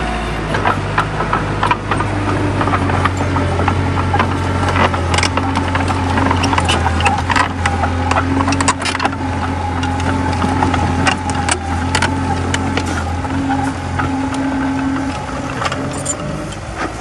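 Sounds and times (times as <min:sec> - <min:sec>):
bulldozer diesel engine running: 0:00.0 - 0:17.0
sharp metal clanks and knocks: 0:00.6 - 0:17.0.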